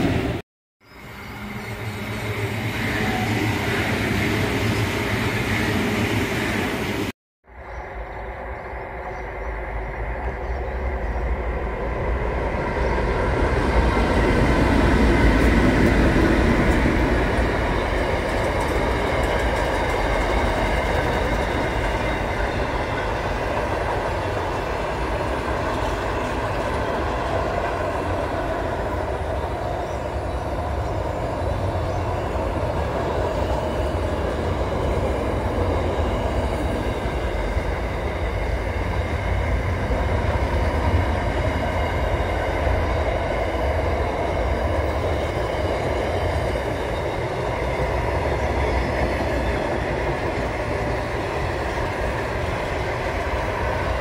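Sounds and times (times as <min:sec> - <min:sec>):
train wheels rumbling on rails: 0:01.2 - 0:07.1, 0:07.8 - 0:54.0.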